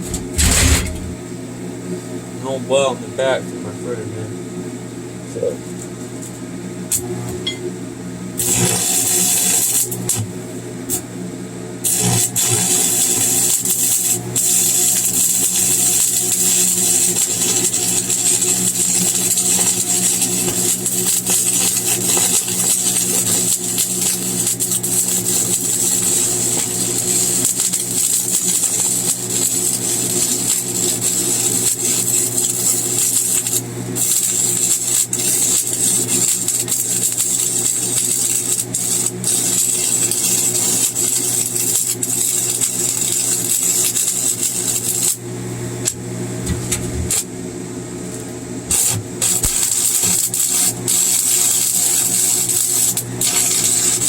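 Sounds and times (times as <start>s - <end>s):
welding arc crackling: 0.0s - 1.2s, 6.9s - 7.1s, 8.4s - 11.1s, 11.8s - 47.3s, 48.7s - 54.0s
welder electrical hum: 0.0s - 54.0s.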